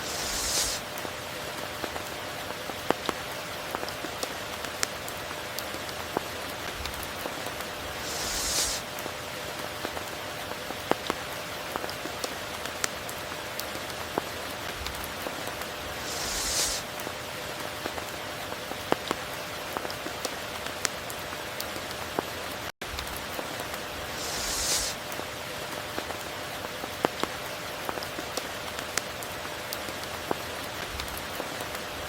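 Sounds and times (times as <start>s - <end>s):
rain falling: 0.0s - 32.0s
raindrops pattering: 0.0s - 32.0s.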